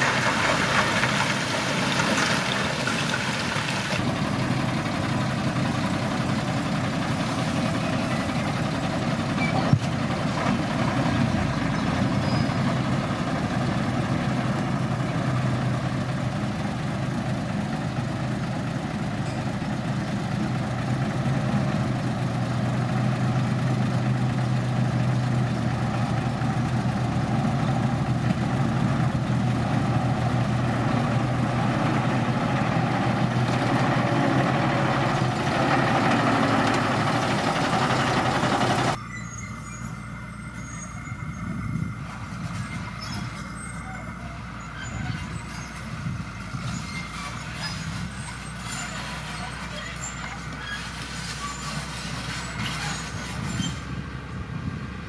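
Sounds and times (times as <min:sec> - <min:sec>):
diesel truck engines idling: 0:00.0 - 0:55.0.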